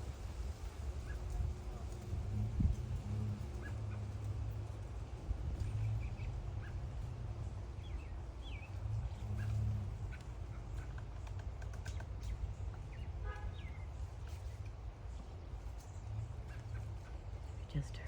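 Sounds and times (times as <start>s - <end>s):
steady low rumble: 0.0s - 18.0s
birds chirping and calling: 1.0s - 18.0s.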